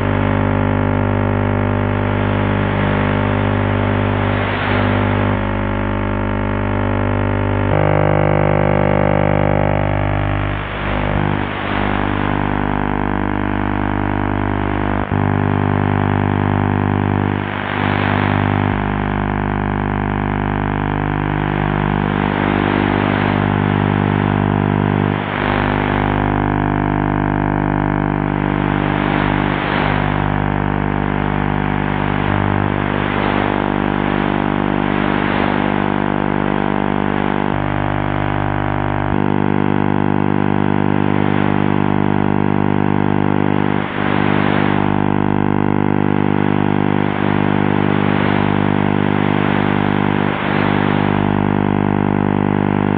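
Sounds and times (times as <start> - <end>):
radio buzzing drone: 0.0 - 52.9
radio noise: 0.0 - 52.9.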